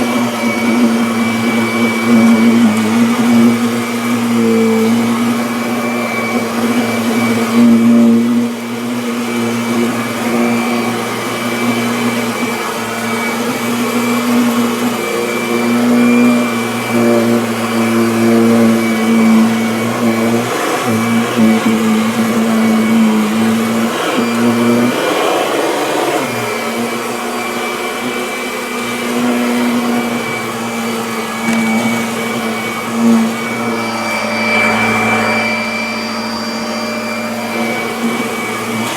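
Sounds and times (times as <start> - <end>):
vacuum cleaner running over carpet: 0.0 - 38.9.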